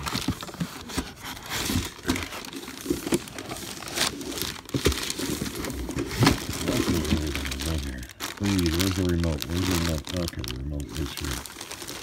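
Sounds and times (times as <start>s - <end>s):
cardboard and plastic bag crinkling: 0.0s - 12.0s.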